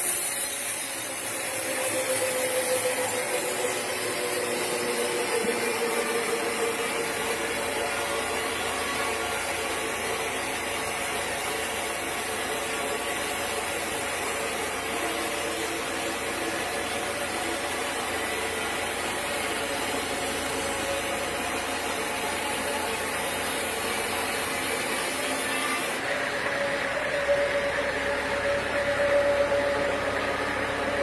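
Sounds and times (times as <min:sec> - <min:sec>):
sawmill machinery drone: 0:00.0 - 0:31.0.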